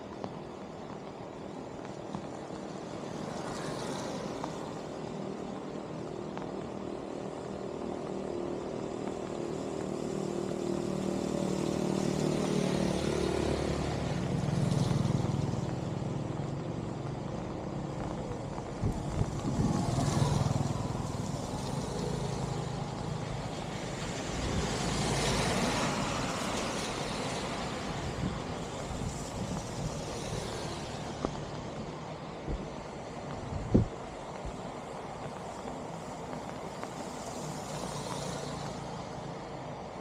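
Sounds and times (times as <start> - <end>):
steady background noise: 0.0 - 40.0.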